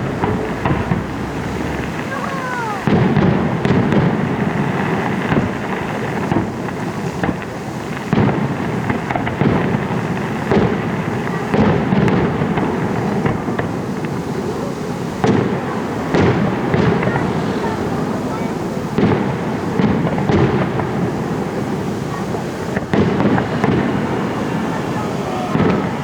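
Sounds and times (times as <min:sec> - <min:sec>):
fireworks booming: 0:00.0 - 0:26.0
fireworks crackling and rumbling: 0:00.0 - 0:26.0.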